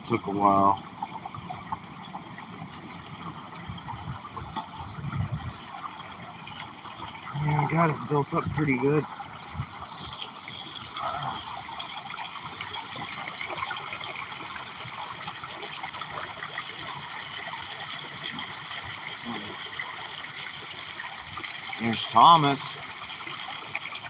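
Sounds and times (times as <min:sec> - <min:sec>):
stream water splashing over rocks: 0:00.0 - 0:24.0.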